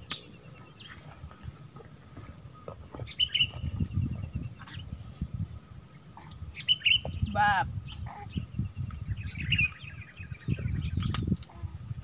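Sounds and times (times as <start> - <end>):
bird chirping: 0.0 - 12.0
insects droning: 0.0 - 12.0.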